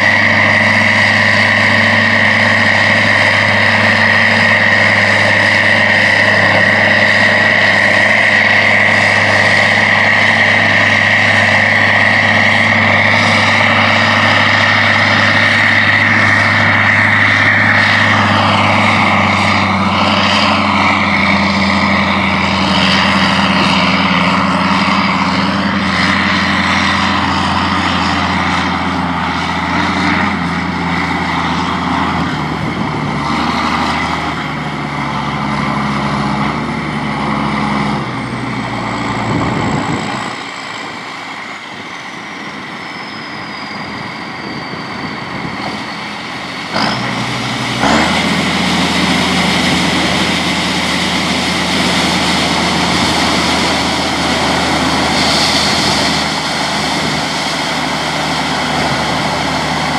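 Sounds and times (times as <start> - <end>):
high whine: 0.0 - 59.9
tractor diesel engine running: 0.0 - 59.9.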